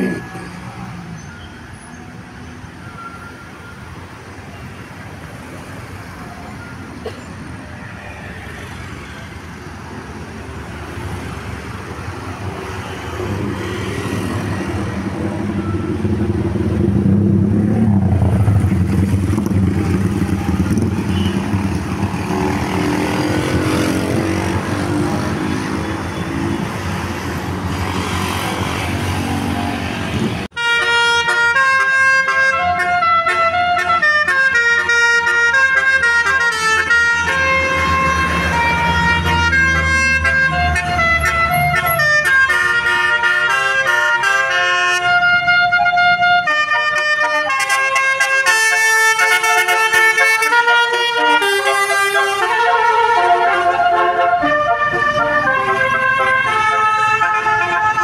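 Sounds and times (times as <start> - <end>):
bus engine: 0.0 - 58.0.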